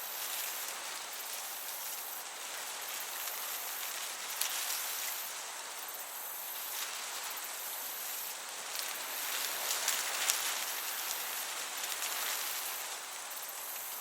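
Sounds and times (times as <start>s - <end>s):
breeze hiss: 0.0s - 14.0s
crickets chirping: 0.0s - 14.0s.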